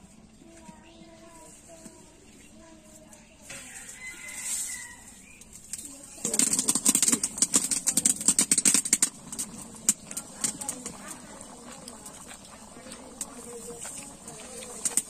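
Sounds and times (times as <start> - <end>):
curry boiling and bubbling: 0.0 - 15.0.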